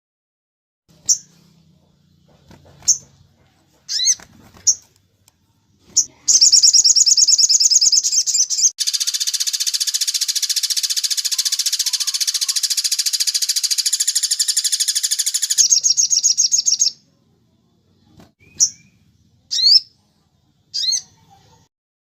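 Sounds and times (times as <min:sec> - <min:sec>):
songbird chirping and trilling: 0:00.9 - 0:21.7.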